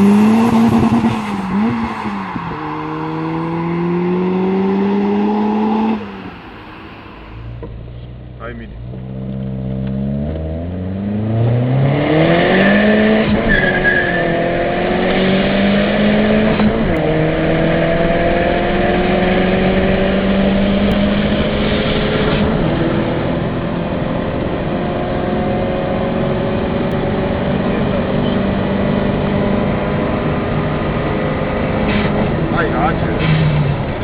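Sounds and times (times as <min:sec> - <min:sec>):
car engine at full throttle: 0:00.0 - 0:34.0.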